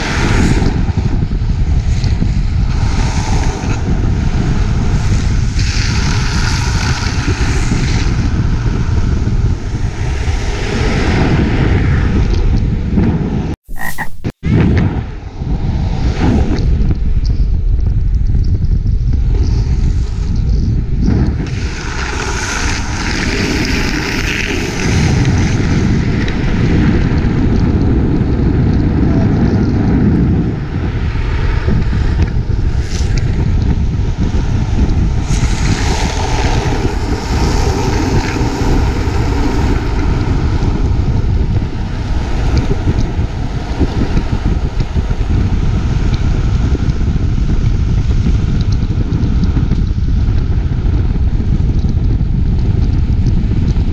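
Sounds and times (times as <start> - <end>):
wheels rolling on asphalt: 0.0 - 12.7, 16.0 - 53.9
wind buffeting microphone: 0.0 - 53.9.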